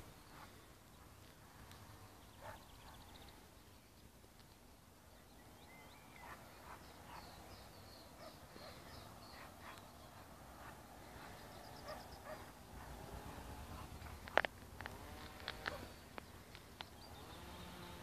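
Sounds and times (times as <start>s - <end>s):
distant bird calls: 0.0s - 18.0s.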